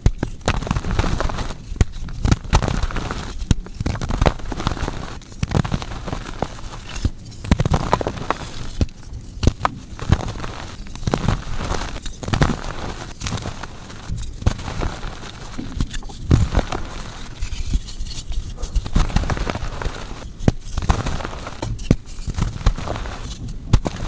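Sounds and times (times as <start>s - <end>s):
chalk crushing and crackling: 0.0s - 24.0s.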